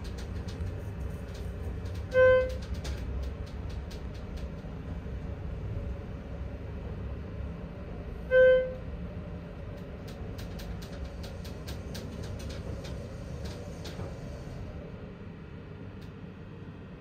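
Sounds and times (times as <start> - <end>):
elevator humming: 0.0 - 17.0.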